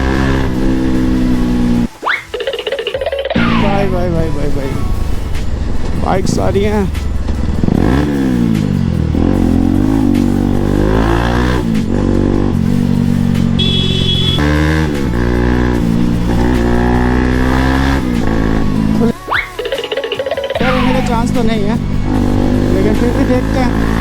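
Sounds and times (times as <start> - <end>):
motorcycle engine revving: 0.0 - 1.9, 2.9 - 19.3, 20.1 - 24.0.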